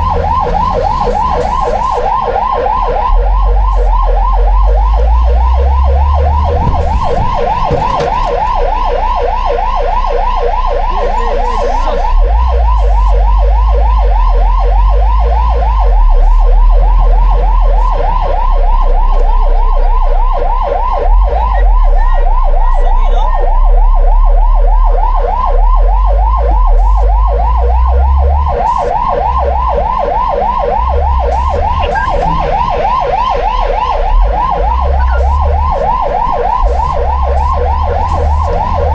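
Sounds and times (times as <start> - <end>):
fire truck siren yelping: 0.0 - 38.9
heavy low rumble: 0.0 - 38.9.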